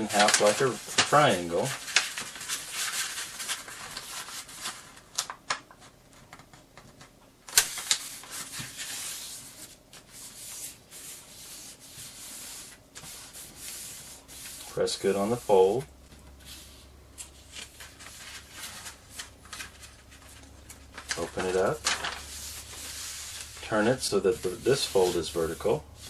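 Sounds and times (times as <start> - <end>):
paper rustling and rubbing: 0.0 - 6.2, 7.5 - 26.0
paper crackles: 0.0 - 6.6, 7.5 - 25.8.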